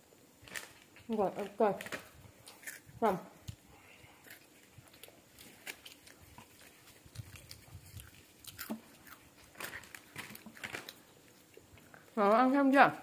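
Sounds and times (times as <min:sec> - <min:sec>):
child chewing crunchy snack: 0:00.4 - 0:12.2.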